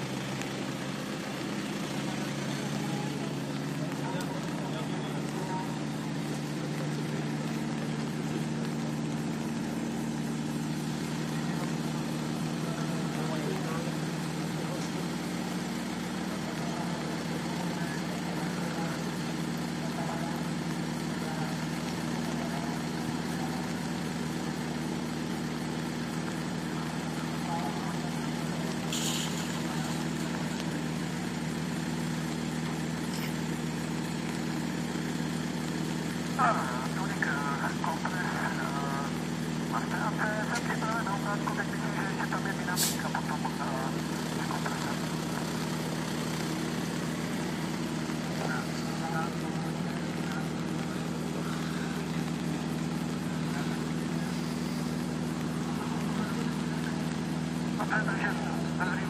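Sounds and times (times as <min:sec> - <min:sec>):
helicopter engine and rotor hum: 0:00.0 - 0:59.0.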